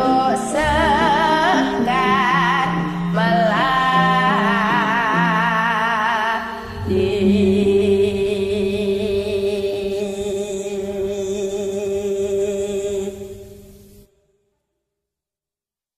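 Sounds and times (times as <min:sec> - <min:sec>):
girl singing with vibrato: 0:00.0 - 0:13.5
karaoke backing music chord: 0:00.0 - 0:14.0.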